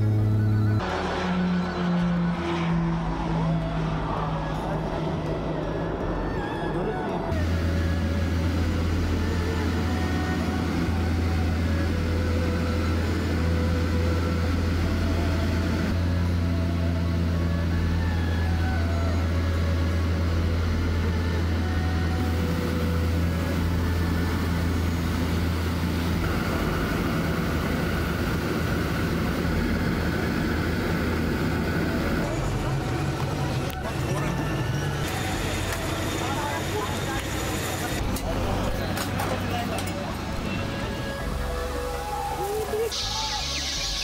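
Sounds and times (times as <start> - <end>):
road noise: 0.0 - 44.0
vehicle engine drone: 0.0 - 44.0.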